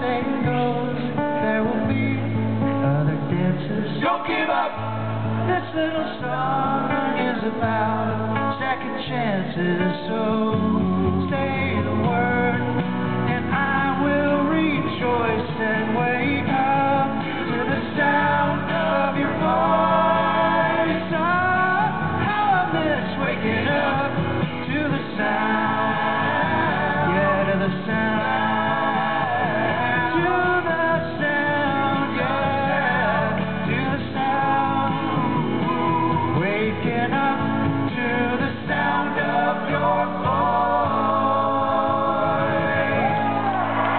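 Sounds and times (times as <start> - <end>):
acoustic guitar and band: 0.0 - 43.9
men singing in harmony: 0.0 - 43.9.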